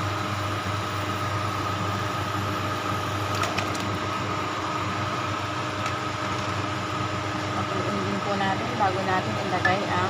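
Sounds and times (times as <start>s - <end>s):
broth boiling in a pot: 0.0s - 10.0s
steady hum: 0.0s - 10.0s.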